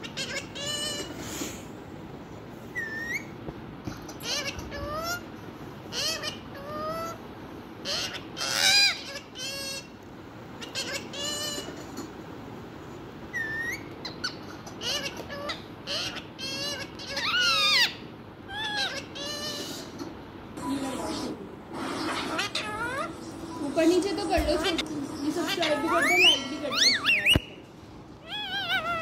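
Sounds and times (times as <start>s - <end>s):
parakeet squawking: 0.0s - 1.4s, 2.7s - 3.4s, 4.0s - 5.3s, 5.9s - 7.2s, 7.8s - 12.2s, 13.3s - 20.2s, 20.8s - 29.0s.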